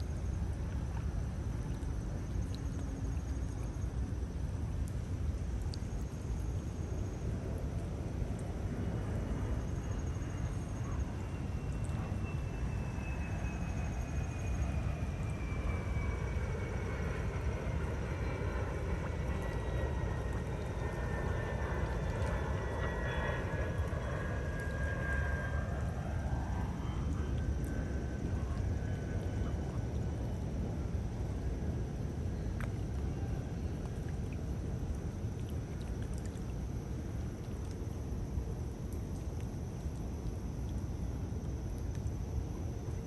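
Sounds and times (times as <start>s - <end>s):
airplane passing overhead: 0.0s - 43.0s.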